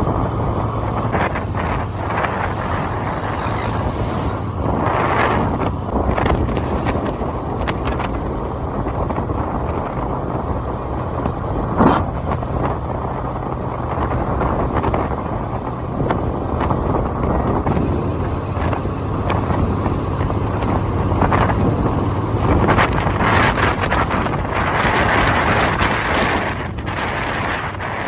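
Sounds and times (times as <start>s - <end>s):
motorcycle engine hum: 0.0s - 28.0s
wind buffeting microphone: 0.0s - 28.0s.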